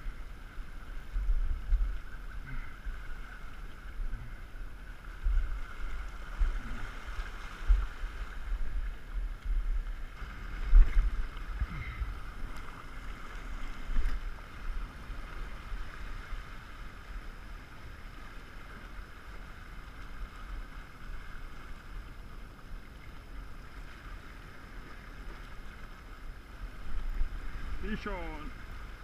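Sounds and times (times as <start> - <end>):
small waves on rocks: 0.0 - 29.0
wind rumbling on microphone: 0.0 - 29.0.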